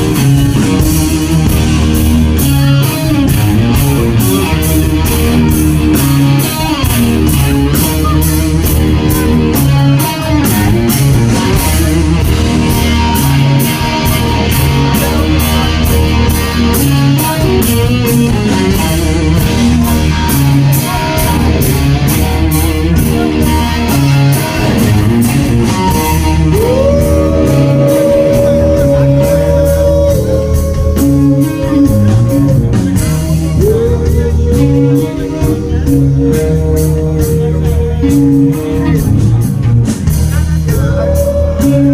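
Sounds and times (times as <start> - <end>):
bending guitar note: 0.0 - 39.8
rock band playing: 0.0 - 41.9.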